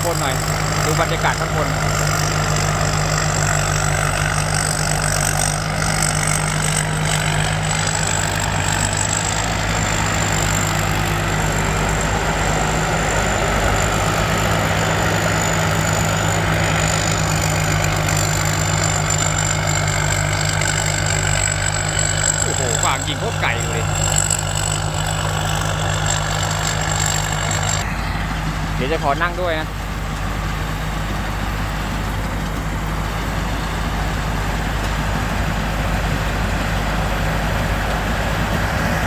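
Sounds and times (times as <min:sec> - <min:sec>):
thin high whine: 0:00.0 - 0:38.5
combine harvester droning: 0:00.0 - 0:39.0.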